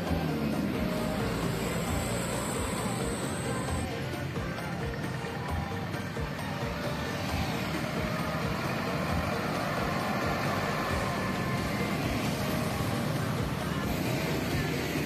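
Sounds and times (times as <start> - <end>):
street traffic noise: 0.0 - 15.0
truck engine passing: 0.0 - 15.0.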